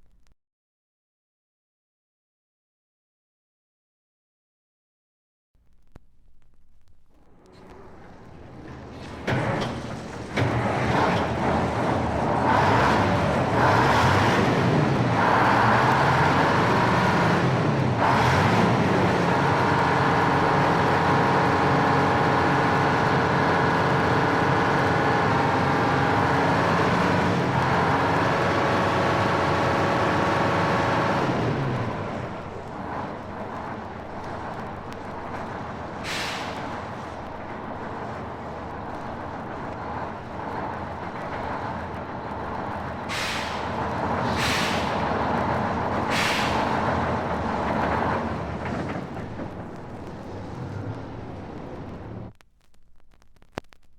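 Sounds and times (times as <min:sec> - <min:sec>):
motor vehicle engine: 0:05.6 - 0:52.4.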